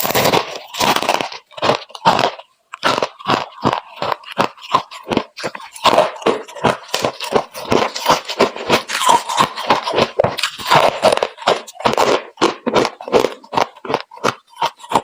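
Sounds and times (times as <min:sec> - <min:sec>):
frost crunching in mouth: 0:00.0 - 0:15.0.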